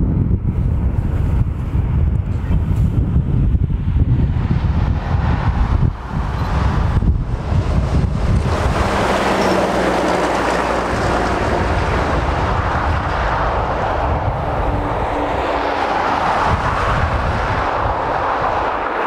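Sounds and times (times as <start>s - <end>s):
car passing: 3.6s - 19.0s
lorry diesel engine passing: 3.7s - 19.0s.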